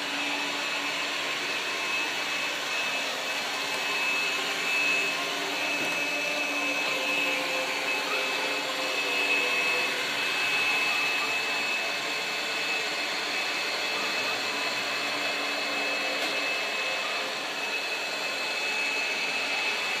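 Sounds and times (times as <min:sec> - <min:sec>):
robot floor cleaner whirring: 0:00.0 - 0:20.0.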